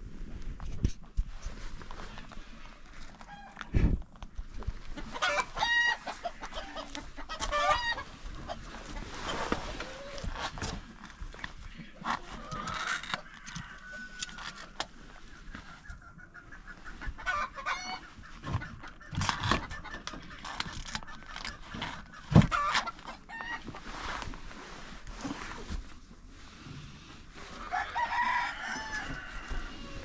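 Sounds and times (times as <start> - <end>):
chickens clucking: 1.9 - 24.6, 27.0 - 30.0.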